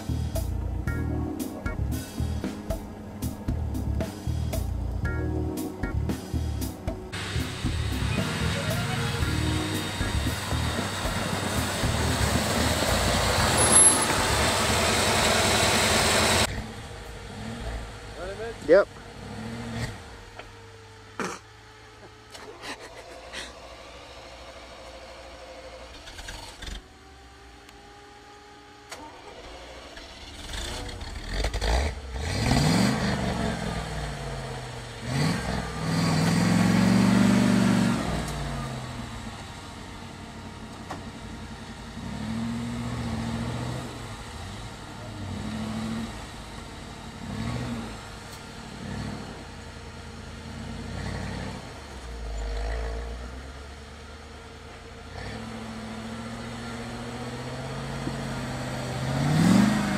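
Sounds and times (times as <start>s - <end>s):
engine idling and revving: 0.0s - 59.9s.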